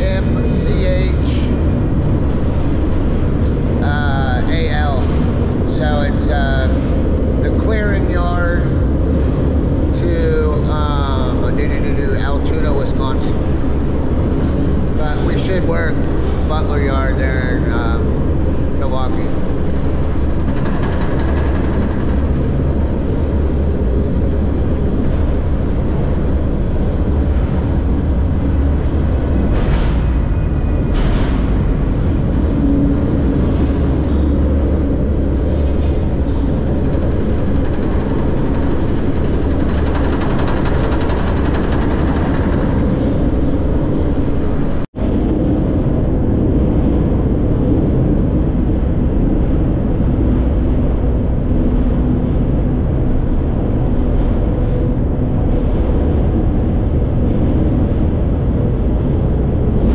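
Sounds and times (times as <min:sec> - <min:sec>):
freight train rumble and rattle: 0:00.0 - 0:59.9.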